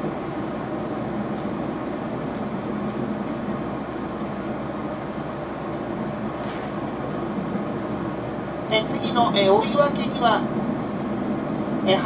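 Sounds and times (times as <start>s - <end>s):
train cabin running noise: 0.0s - 12.0s.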